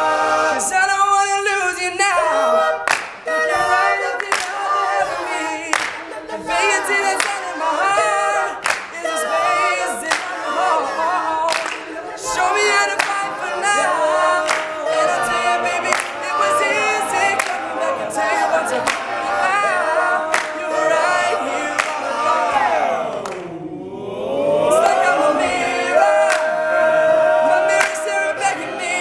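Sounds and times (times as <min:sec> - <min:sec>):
male group singing in harmony: 0:00.0 - 0:29.0.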